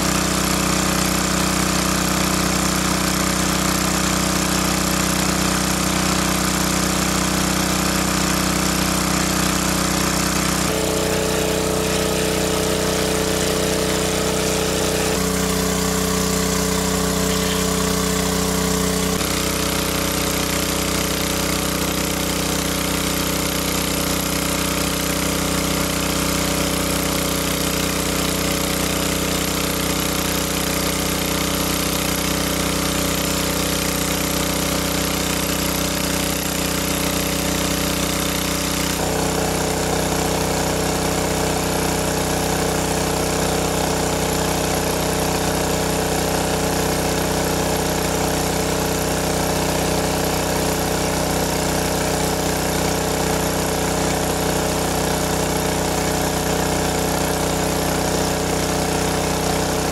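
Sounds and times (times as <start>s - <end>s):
water pump engine humming: 0.0s - 59.9s.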